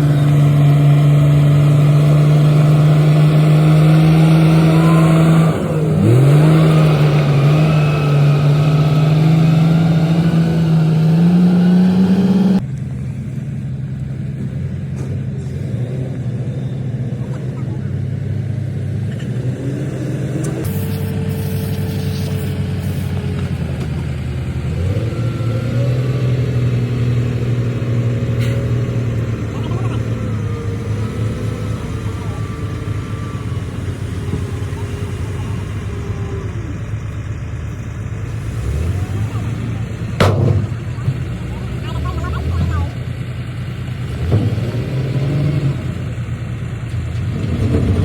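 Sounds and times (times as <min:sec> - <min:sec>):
bulldozer diesel engine under load: 0:00.0 - 0:48.0.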